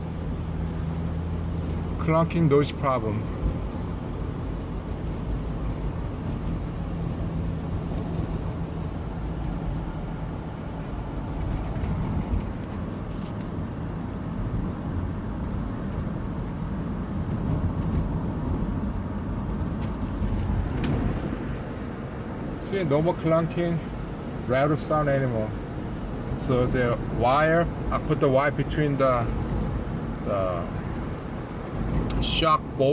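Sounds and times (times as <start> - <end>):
van engine and road noise: 0.0 - 32.9.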